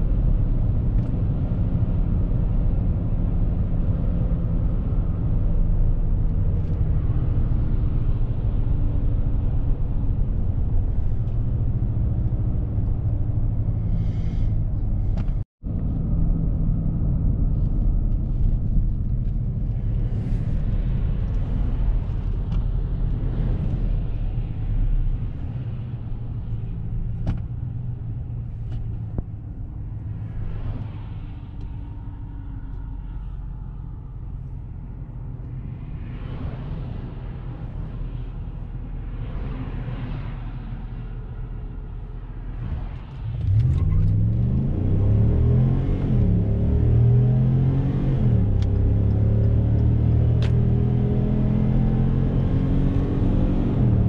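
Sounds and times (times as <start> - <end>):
engine and road noise rumble: 0.0 - 54.0.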